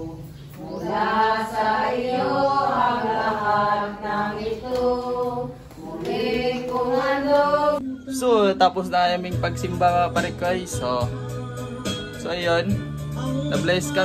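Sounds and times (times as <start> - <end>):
voices singing a slow hymn: 0.0 - 8.2, 10.8 - 14.0.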